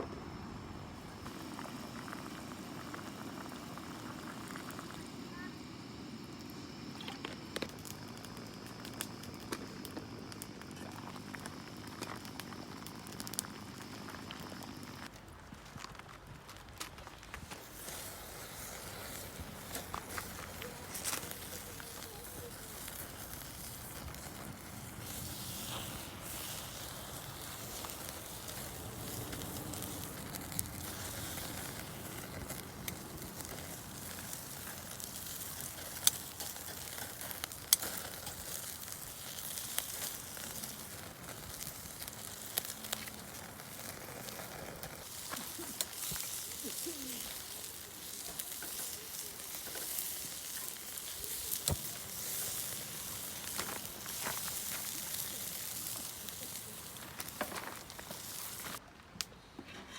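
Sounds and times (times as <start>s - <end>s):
food sizzling over campfire: 0.1s - 58.8s
fire popping and crackling: 0.2s - 58.8s.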